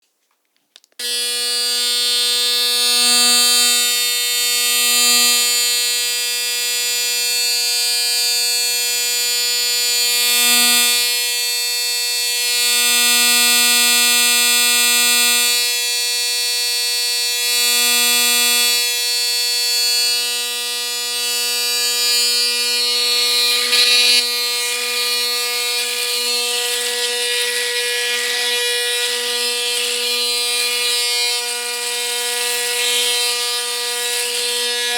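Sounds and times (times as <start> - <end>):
electric shaver buzzing: 1.0 - 34.9.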